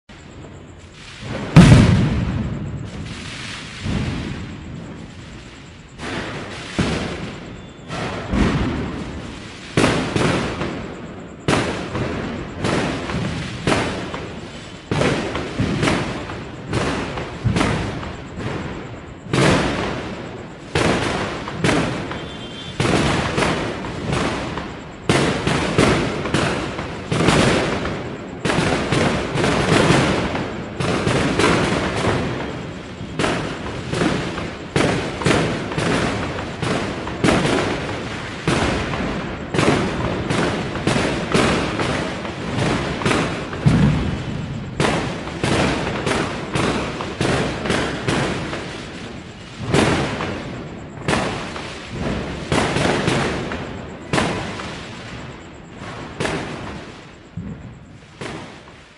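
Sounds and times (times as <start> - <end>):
firecrackers banging: 0.1 - 58.9.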